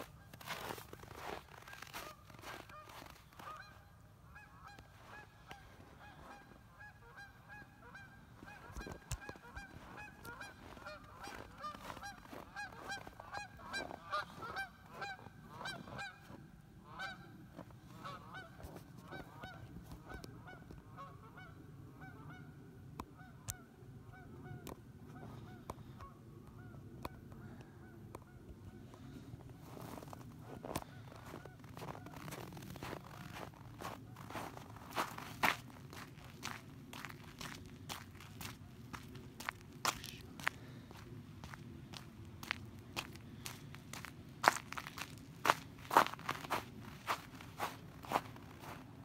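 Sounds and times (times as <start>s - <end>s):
geese honking: 0.0s - 49.0s.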